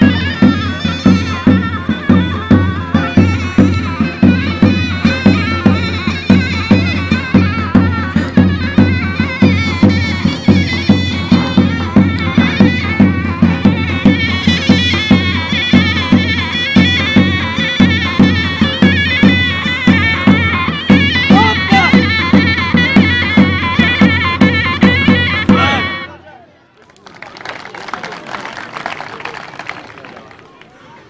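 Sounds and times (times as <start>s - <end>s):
drum beat: 0.0s - 26.1s
shrill zurna melody: 0.0s - 26.5s.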